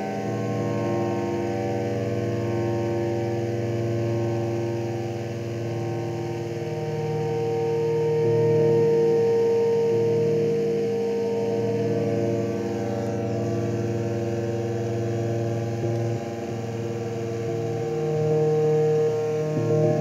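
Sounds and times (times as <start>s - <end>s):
synthesizer drone chord: 0.0s - 20.0s.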